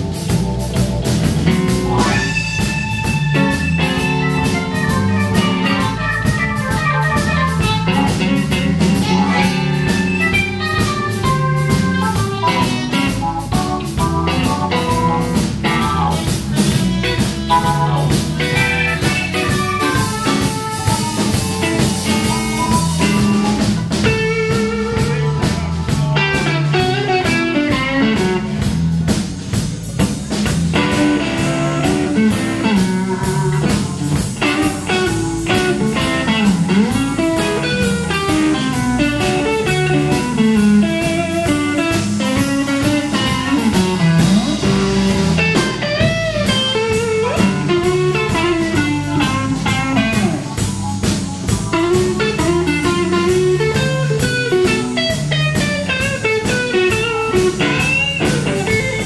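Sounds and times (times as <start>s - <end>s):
bass guitar: 0.0s - 59.0s
bent electric guitar notes: 0.0s - 59.0s
drum kit: 0.0s - 59.0s.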